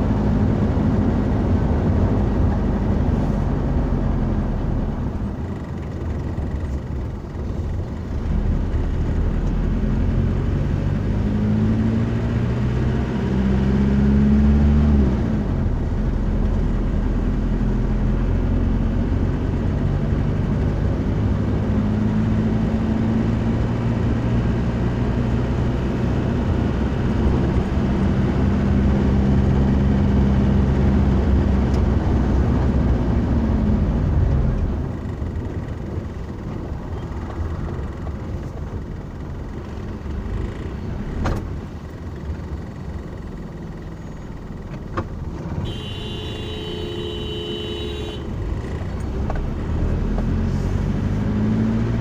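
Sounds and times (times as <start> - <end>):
road noise: 0.0 - 52.0
vehicle engine accelerating: 0.0 - 52.0.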